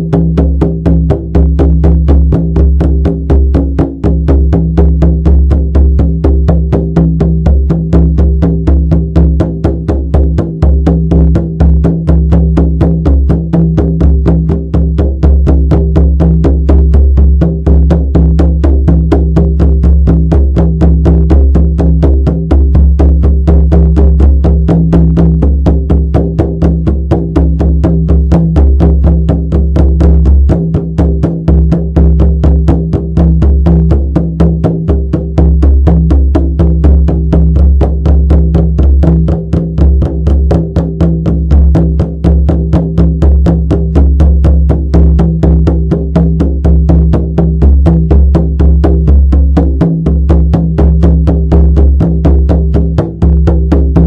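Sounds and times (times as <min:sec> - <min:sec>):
frame drum beaten rhythmically: 0:00.0 - 0:54.0.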